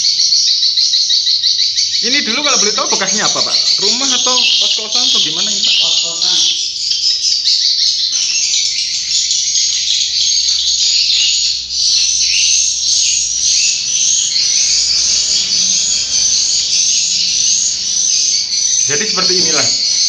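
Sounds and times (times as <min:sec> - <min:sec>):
rising bird chirp: 0:01.2 - 0:20.0
swiftlets twittering: 0:01.9 - 0:07.2, 0:07.8 - 0:20.0.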